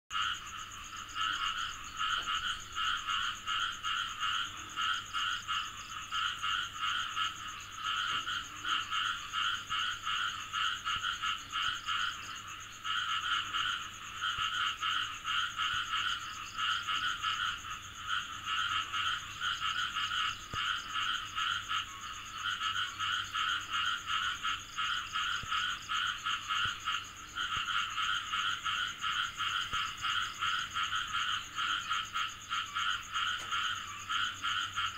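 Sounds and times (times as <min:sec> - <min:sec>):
frog croaking: 0:00.1 - 0:34.9.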